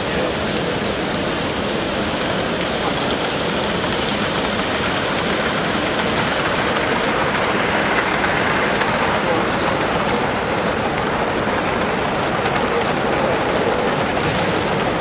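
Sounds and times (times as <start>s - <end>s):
busy hall background noise: 0.0s - 15.0s
model train wheels rumbling on rails: 0.0s - 15.0s.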